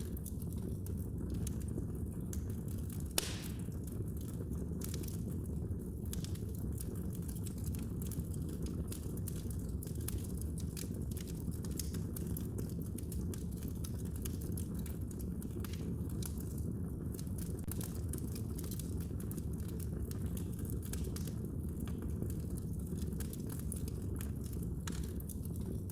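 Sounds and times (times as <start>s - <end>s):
low rumble of flames: 0.0s - 25.9s
wood fire crackling and popping: 0.0s - 25.9s.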